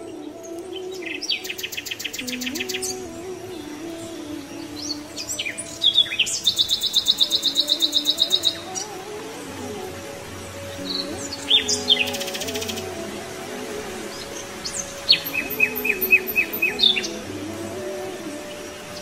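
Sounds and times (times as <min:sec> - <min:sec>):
birds chirping in high trills: 0:00.0 - 0:19.0
soft background music: 0:00.0 - 0:19.0.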